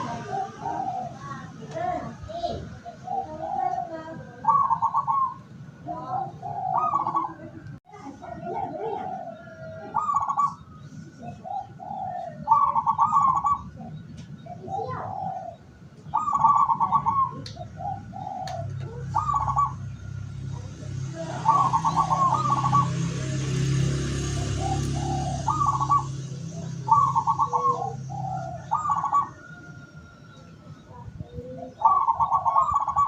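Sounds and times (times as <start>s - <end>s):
dove cooing: 0.0s - 33.0s
steady low hum: 0.0s - 33.0s.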